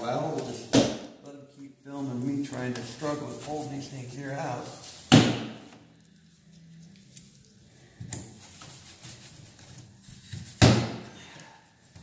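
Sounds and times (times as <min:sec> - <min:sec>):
handling and scraping: 0:01.9 - 0:12.0.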